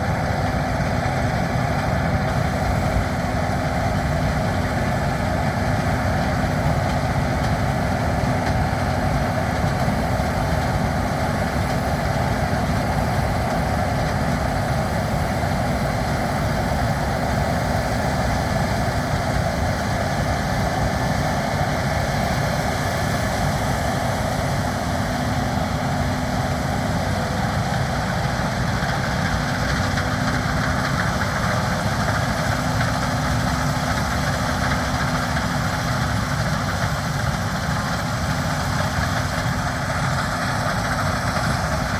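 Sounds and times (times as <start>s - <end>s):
large engine droning: 0.0s - 41.9s.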